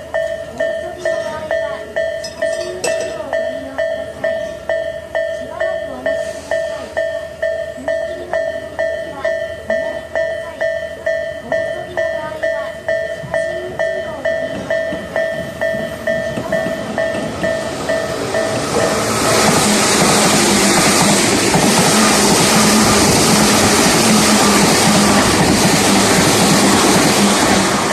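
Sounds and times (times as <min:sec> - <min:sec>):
electric train passing: 0:00.0 - 0:27.9
level crossing alarm bell: 0:00.0 - 0:27.9.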